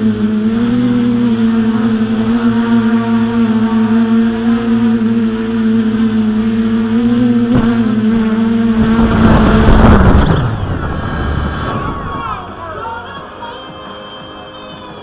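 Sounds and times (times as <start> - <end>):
rough rushing noise: 0.0 - 12.9
drone propellers humming: 0.0 - 13.7.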